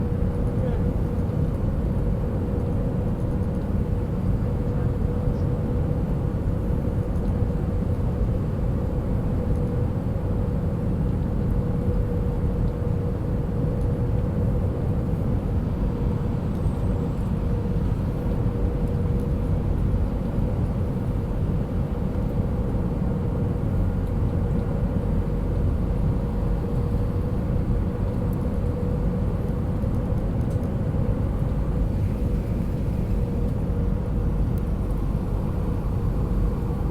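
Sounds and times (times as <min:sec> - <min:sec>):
jet engine and airflow rumble: 0:00.0 - 0:36.9.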